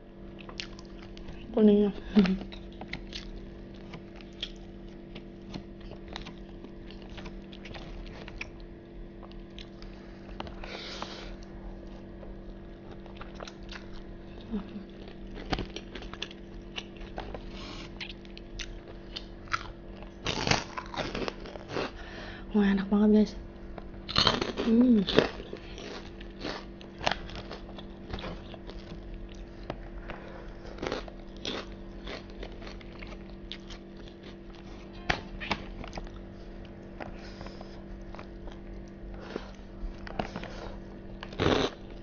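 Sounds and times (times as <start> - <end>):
steady low hum: 0.0 - 42.0
chewing and mouth sounds: 0.3 - 1.4, 2.2 - 22.0, 24.1 - 42.0.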